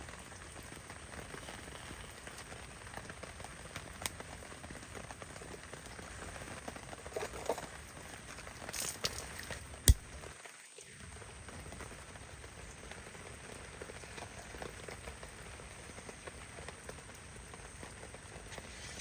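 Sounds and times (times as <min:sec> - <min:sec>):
heavy rain pattering: 0:00.0 - 0:08.8, 0:10.6 - 0:19.0.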